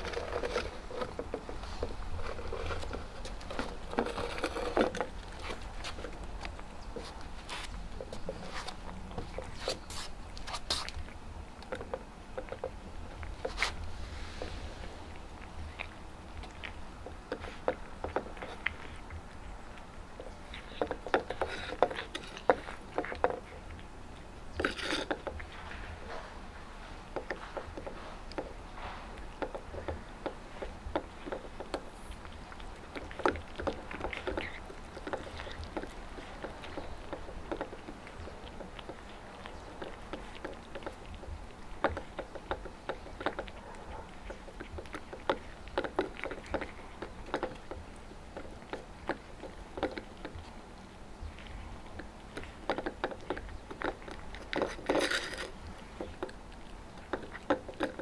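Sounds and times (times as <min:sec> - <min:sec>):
cat crunching food: 0:00.0 - 0:58.0.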